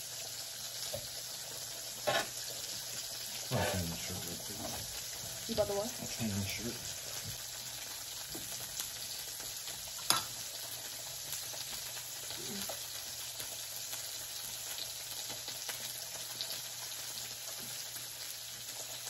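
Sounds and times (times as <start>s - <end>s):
meat sizzling on griddle: 0.0s - 19.0s.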